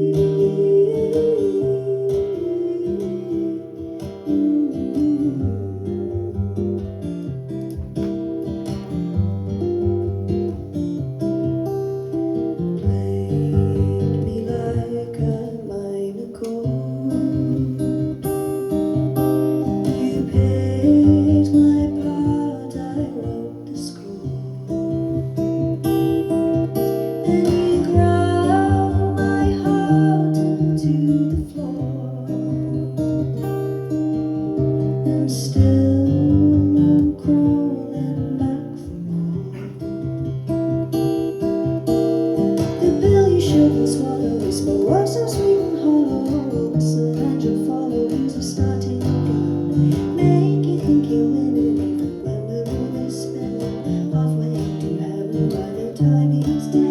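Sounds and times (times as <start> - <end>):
person singing: 0.0 - 6.4, 12.5 - 56.9
acoustic guitar: 0.0 - 56.9.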